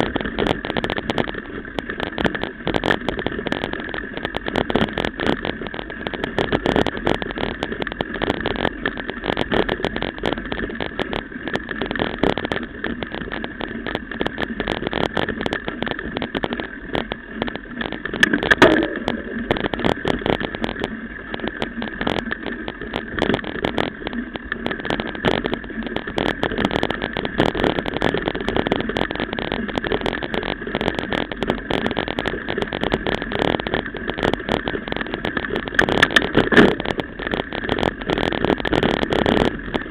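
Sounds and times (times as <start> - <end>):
bike rattling over bumps: 0.0 - 39.9.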